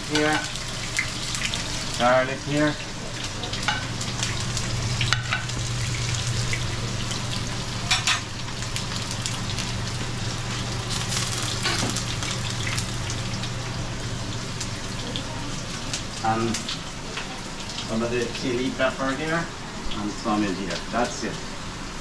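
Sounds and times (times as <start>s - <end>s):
onion frying in hot oil: 0.0s - 22.0s
steady low hum: 0.0s - 22.0s.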